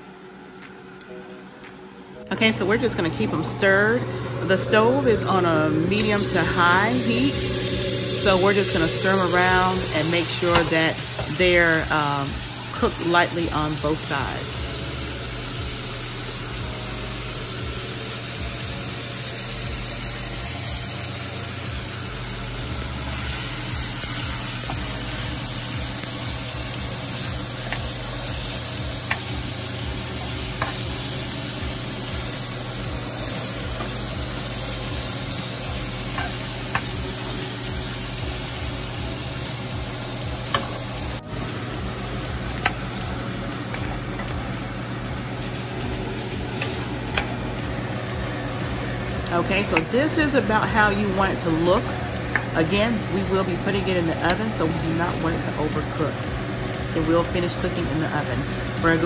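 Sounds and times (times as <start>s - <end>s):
shrimp sizzling in oil: 6.0s - 59.0s.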